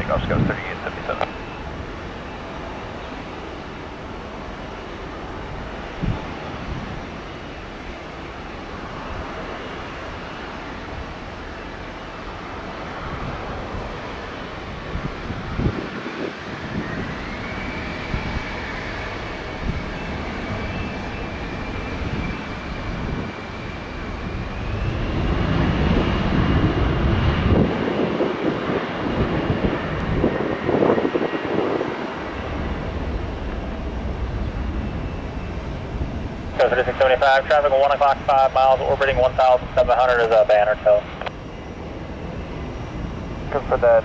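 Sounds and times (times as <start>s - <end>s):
high engine whine: 0.0s - 44.0s
jet engines running up: 0.0s - 44.0s.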